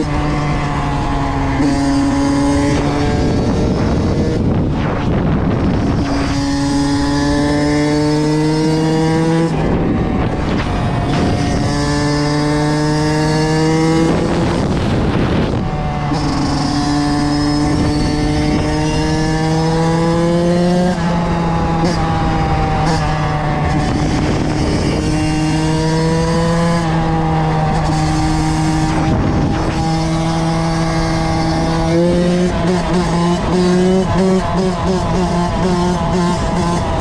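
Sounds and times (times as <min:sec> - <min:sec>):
dirt bike engine at high revs: 0:00.0 - 0:37.0.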